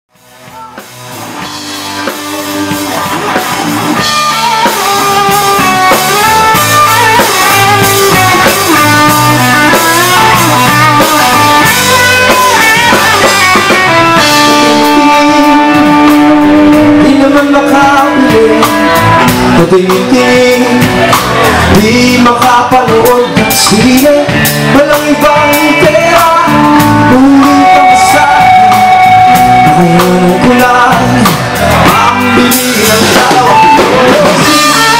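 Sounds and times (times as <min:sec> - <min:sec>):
live rock band playing: 0:00.1 - 0:34.9
man singing: 0:02.5 - 0:34.9.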